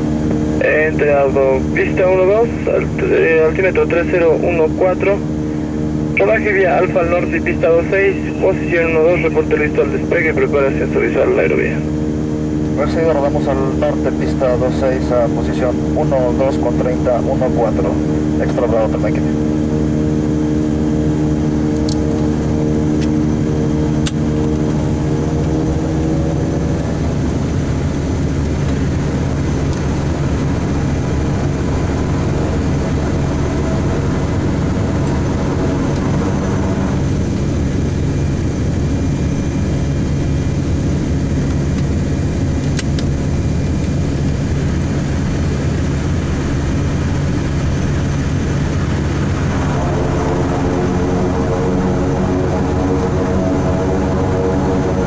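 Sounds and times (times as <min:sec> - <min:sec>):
propeller hum: 0:00.0 - 0:55.0
turboprop engines droning: 0:00.0 - 0:55.0.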